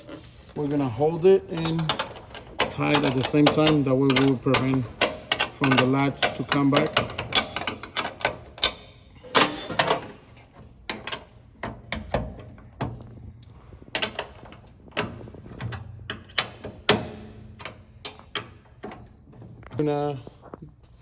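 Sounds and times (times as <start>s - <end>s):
latch mechanism clicks and knocks: 1.5s - 19.1s.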